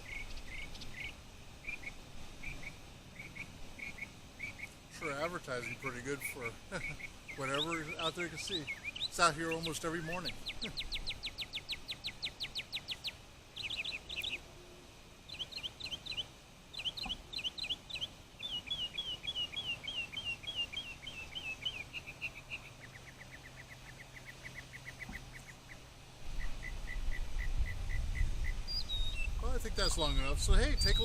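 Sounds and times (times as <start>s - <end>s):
songbird singing: 0.0s - 31.0s.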